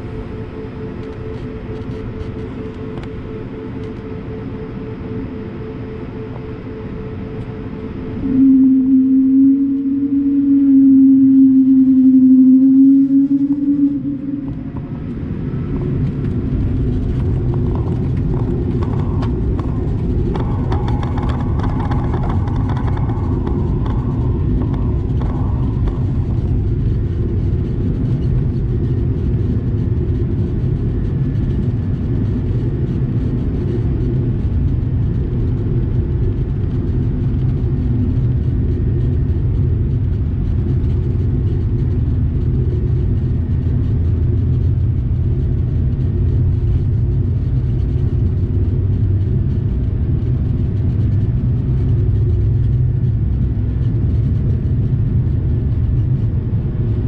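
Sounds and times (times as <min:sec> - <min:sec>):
jet cabin low rumble: 0:00.0 - 0:57.0
rattle and whine: 0:00.0 - 0:57.0.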